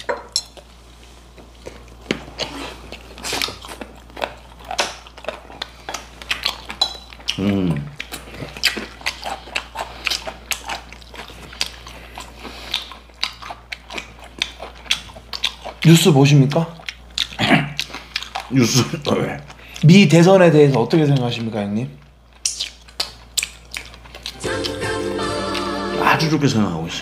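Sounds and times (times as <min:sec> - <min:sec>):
crunchy chicken chewing: 0:00.0 - 0:25.8.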